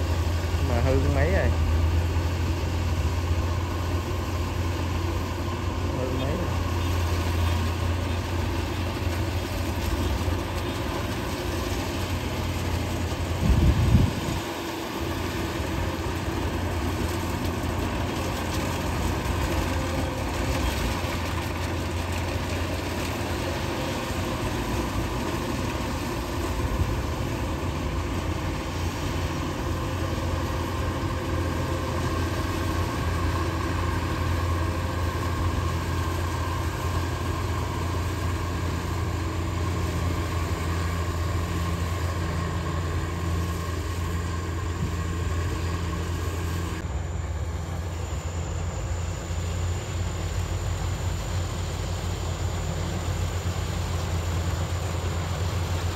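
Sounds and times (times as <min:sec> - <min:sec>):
combine harvester engine droning: 0:00.0 - 0:55.9.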